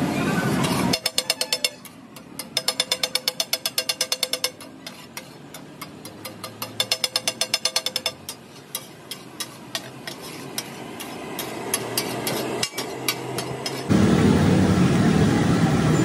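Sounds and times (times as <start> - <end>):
metal spatula clacking on griddle: 0.6 - 13.9.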